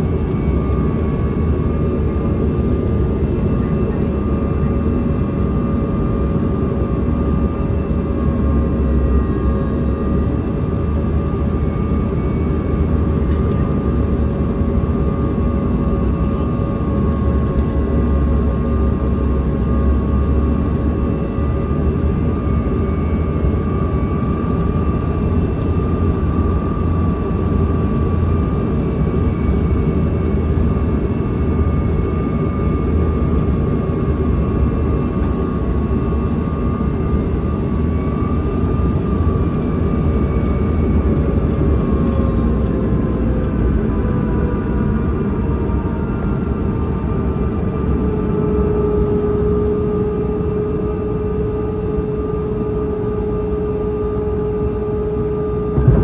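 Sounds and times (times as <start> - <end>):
engine and airflow rumble: 0.0 - 56.0
jet engine whine: 0.0 - 56.0.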